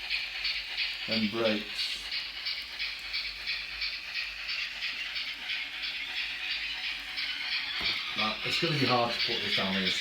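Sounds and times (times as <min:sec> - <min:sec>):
low rumble of model train: 0:00.0 - 0:10.0
steam chuffs from small speaker: 0:00.0 - 0:10.0.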